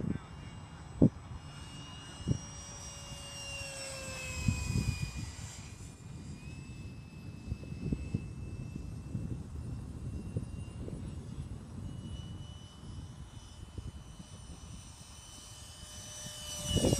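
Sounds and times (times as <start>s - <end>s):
jet model fan whine: 0.0s - 16.9s.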